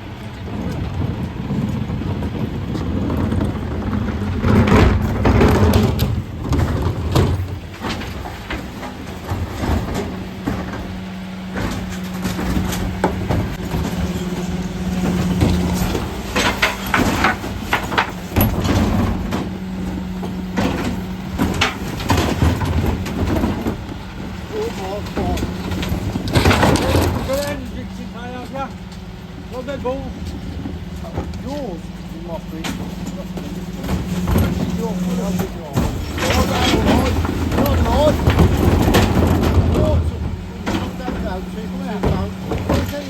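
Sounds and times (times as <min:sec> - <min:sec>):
truck engine and hydraulics humming: 0:00.0 - 0:43.0
wheelie bins knocking and clattering: 0:00.0 - 0:43.0.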